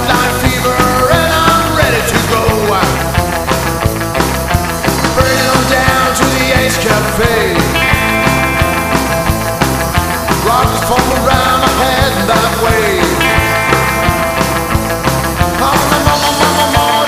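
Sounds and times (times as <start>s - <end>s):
pitch-bending lead line: 0.0s - 17.0s
rock drum beat: 0.0s - 17.0s.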